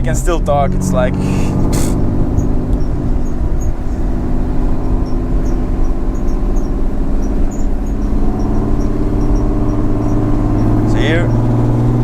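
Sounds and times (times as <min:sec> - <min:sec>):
deep engine exhaust note: 0:00.0 - 0:12.0.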